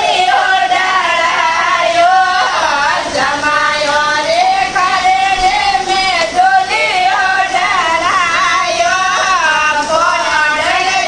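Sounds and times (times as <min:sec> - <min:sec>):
woman singing folk song: 0:00.0 - 0:11.0.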